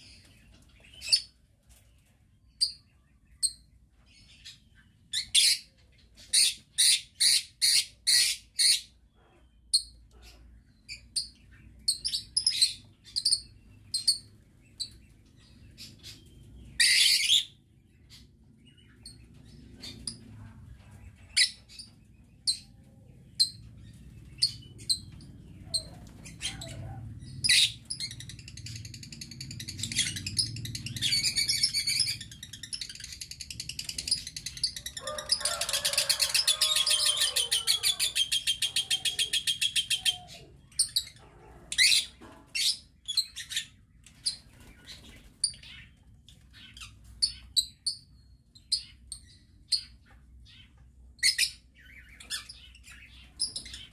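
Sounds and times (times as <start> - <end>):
lovebirds chirping: 0.0 - 53.9.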